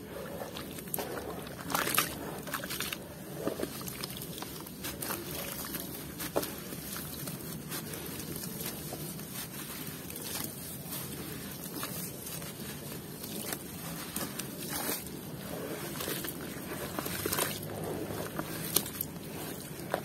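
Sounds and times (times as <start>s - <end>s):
mud squelching and sloshing: 0.0s - 20.0s.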